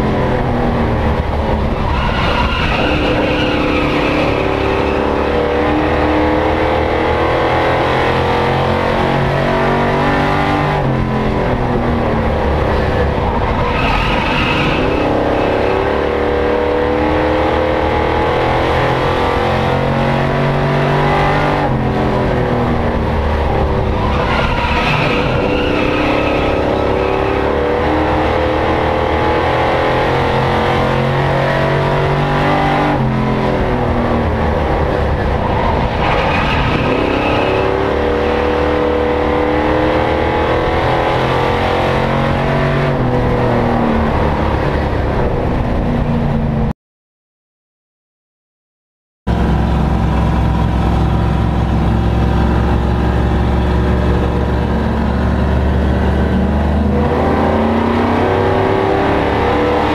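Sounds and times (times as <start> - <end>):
race truck engine revving: 0.0 - 45.3, 49.3 - 59.9.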